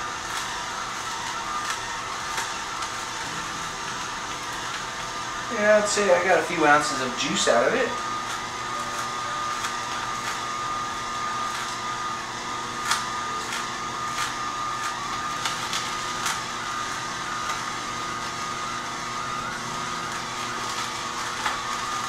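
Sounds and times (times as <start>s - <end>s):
electric juicer whining: 0.0s - 22.0s.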